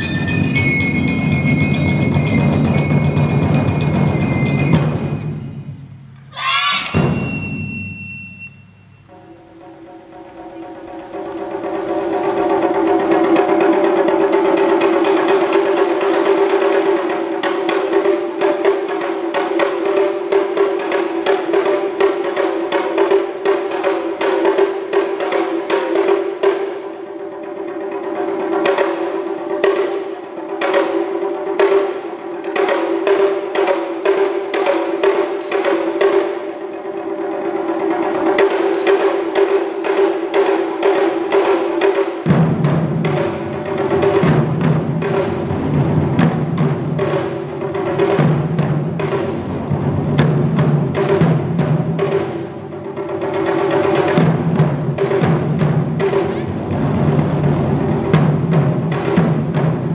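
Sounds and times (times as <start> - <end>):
barrel drums in driving rhythm: 0.0 - 59.9.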